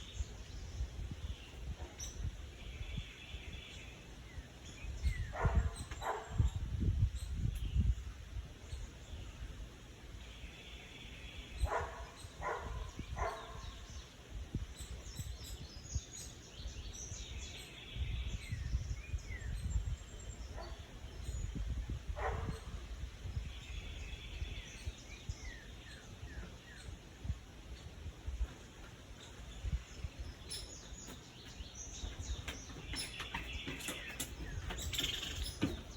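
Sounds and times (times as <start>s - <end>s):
low wind rumble: 0.0s - 35.9s
small birds chirping: 0.0s - 35.9s.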